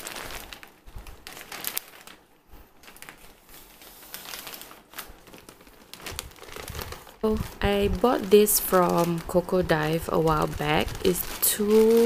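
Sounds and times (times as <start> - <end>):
plastic mailer bag crinkling: 0.0 - 12.0.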